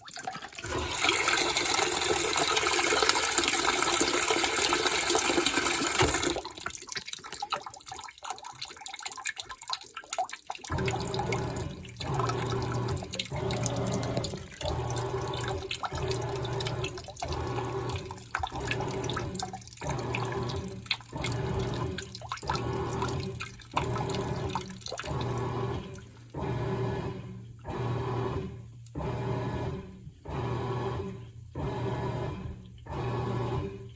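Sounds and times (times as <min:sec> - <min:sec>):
water pouring into tub: 0:00.0 - 0:29.4
washing machine agitator humming: 0:00.0 - 0:33.9.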